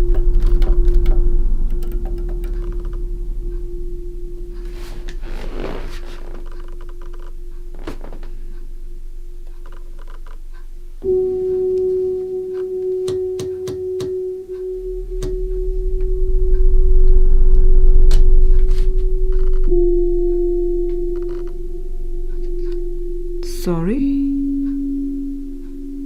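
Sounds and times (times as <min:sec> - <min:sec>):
electronic drone tone: 0:00.0 - 0:26.0
low hum: 0:00.0 - 0:26.0.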